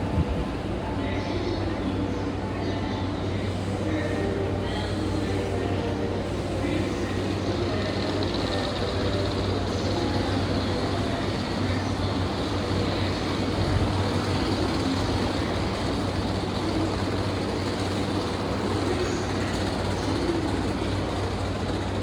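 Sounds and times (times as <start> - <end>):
electric train interior hum: 0.0 - 22.0.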